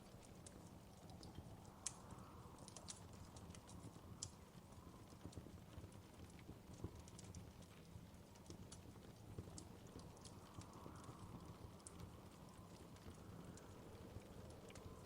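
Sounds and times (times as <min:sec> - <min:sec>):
low fire rumble: 0:00.0 - 0:15.0
wood fire crackling faintly: 0:00.0 - 0:15.0.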